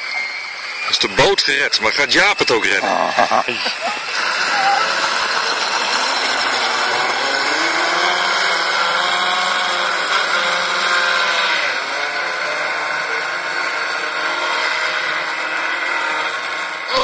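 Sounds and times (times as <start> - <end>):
model boat electric motors whining: 0.0 - 16.9.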